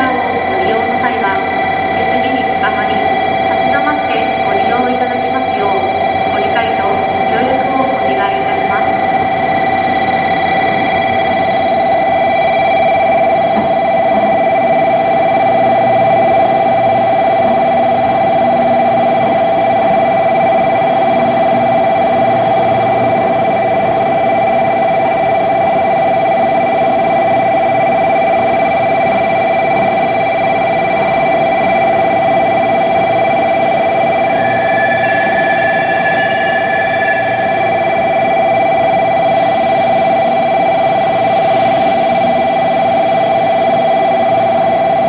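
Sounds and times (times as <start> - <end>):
steady high-pitched tone: 0.0 - 45.0.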